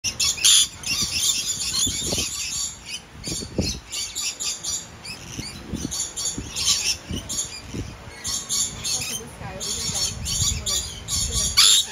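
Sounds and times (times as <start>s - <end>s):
parrots squawking and chattering: 0.0s - 11.9s.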